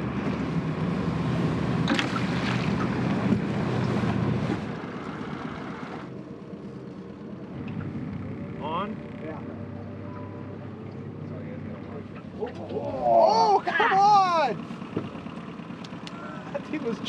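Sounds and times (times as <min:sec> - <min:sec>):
boat motor idling: 0:00.0 - 0:17.0.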